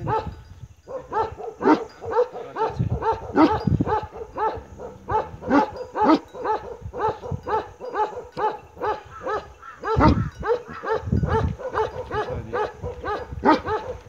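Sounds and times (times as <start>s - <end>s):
dog barking: 0.0s - 14.0s.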